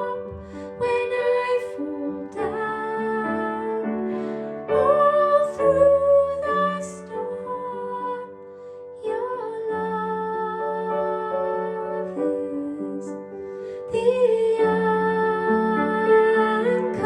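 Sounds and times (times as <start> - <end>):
soft accompaniment: 0.0 - 17.0.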